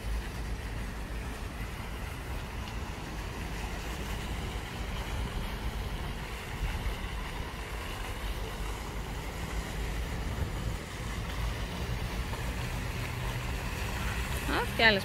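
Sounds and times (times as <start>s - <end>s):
fountain jet splashing hiss: 0.0s - 15.0s
wind rumbling on microphone: 0.0s - 15.0s.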